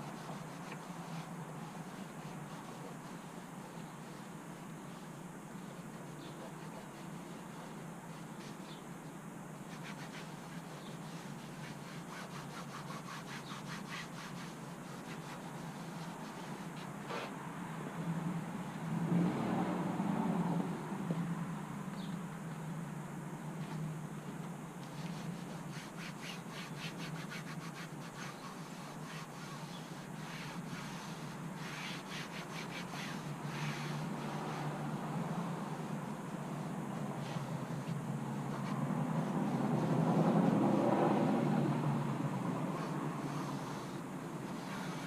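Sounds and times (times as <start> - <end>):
hand rubbing on plastic: 0.0 - 9.0, 9.6 - 17.4, 23.6 - 40.7, 42.6 - 45.0.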